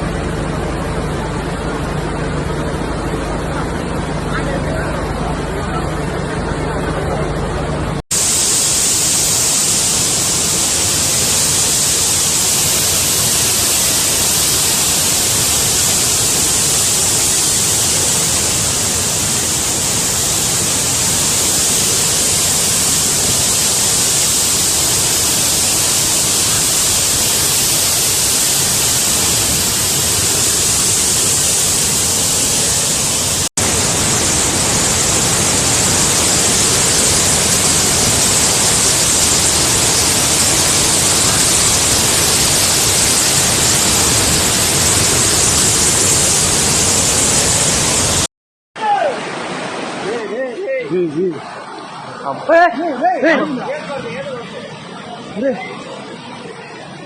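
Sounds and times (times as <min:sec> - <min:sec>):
floodwater rushing: 0:00.0 - 0:57.0.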